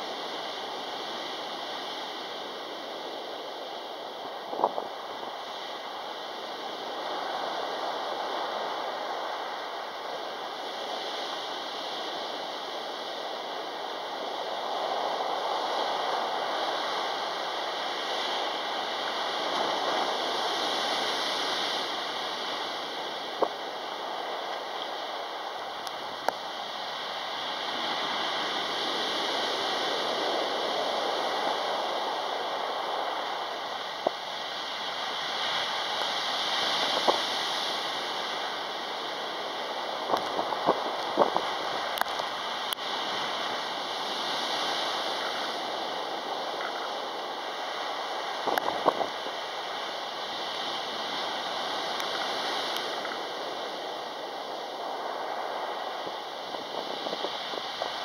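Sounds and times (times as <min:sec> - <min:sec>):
waves breaking on pebble beach: 0:00.0 - 0:58.0.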